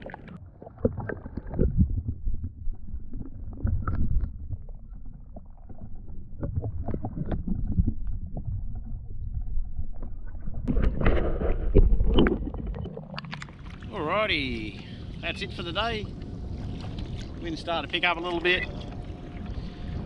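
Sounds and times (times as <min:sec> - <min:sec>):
water sloshing against kayak hull: 0:00.0 - 0:20.0.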